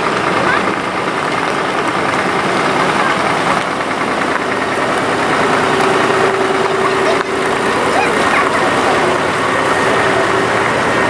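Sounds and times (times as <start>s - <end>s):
diesel truck engine passing: 0.0s - 11.0s.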